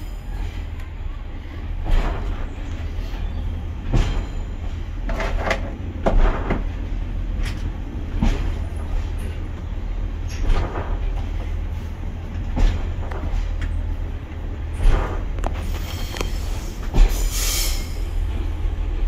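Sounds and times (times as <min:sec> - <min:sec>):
diesel railbus rumbling: 0:00.0 - 0:19.0
clunks and rattles: 0:01.7 - 0:19.0.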